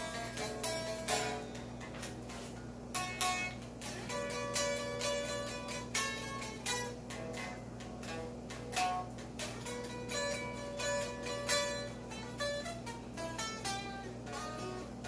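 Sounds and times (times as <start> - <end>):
electric guitar notes plucked: 0.0 - 15.0
steady low hum: 0.0 - 15.0.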